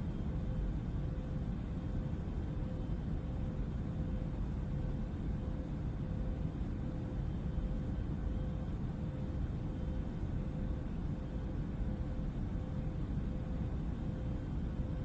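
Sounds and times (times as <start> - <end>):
faint constant hum: 0.0 - 15.0
jet engine drone in cabin: 0.0 - 15.0.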